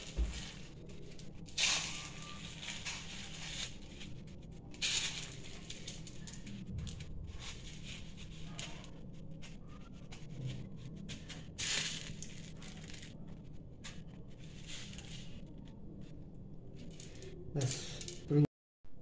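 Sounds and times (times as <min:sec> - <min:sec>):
dry noodles rustling and crunching: 0:00.0 - 0:18.3
low steady hum: 0:00.0 - 0:18.5.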